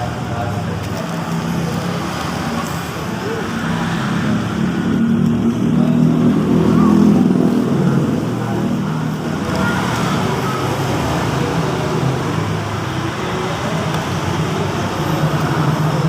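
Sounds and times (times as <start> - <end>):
road traffic with engine hum: 0.0 - 16.0.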